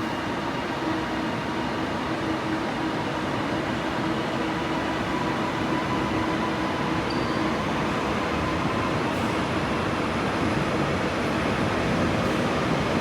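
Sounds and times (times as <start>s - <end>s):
train running with steady hum: 0.0s - 13.0s.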